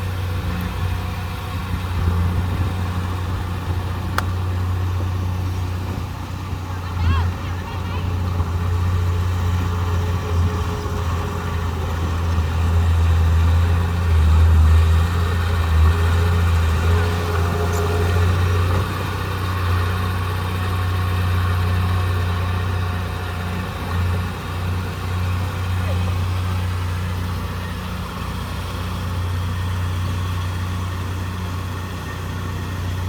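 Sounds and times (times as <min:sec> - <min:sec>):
heavy diesel engine humming: 0:00.0 - 0:33.0.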